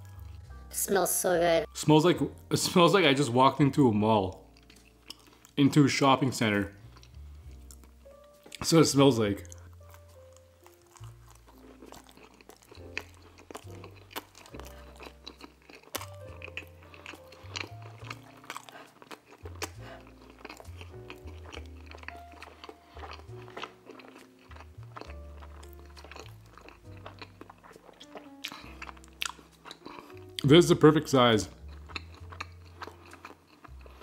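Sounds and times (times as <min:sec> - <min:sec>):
person chewing: 0:00.0 - 0:00.5, 0:04.3 - 0:05.6, 0:06.7 - 0:08.8, 0:09.4 - 0:34.0.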